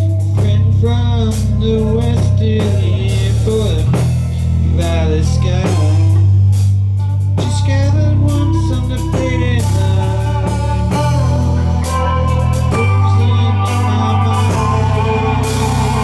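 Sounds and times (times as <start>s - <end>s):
deep sustained bass notes: 0.0s - 16.0s
drum kit with cymbals: 0.0s - 16.0s
electric guitar: 0.0s - 16.0s.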